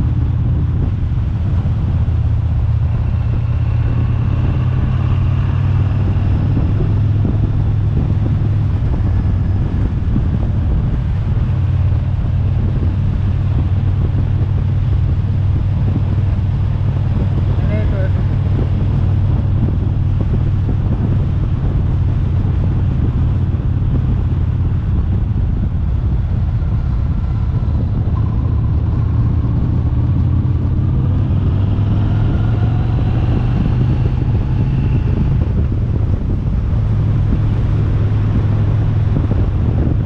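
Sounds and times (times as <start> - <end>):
car engine: 0.0 - 40.0
road rumble: 0.0 - 40.0.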